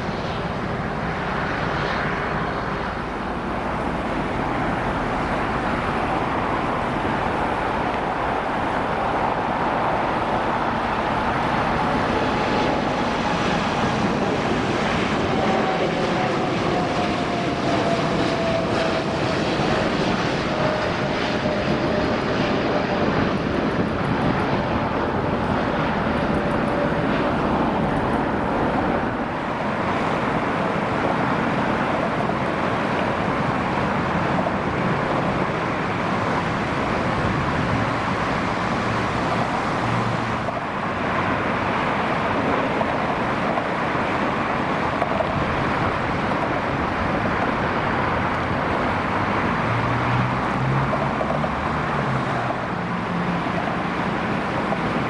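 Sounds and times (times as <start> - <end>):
jet engine noise: 0.0 - 55.0.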